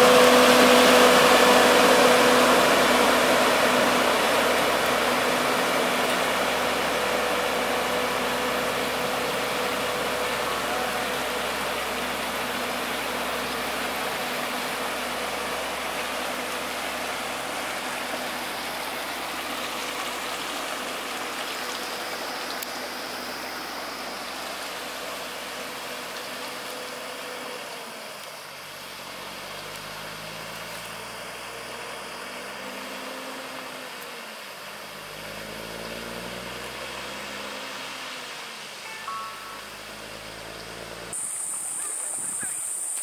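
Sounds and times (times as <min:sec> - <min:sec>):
diesel truck engine: 0:00.0 - 0:43.0
wheels splashing through water: 0:00.0 - 0:43.0.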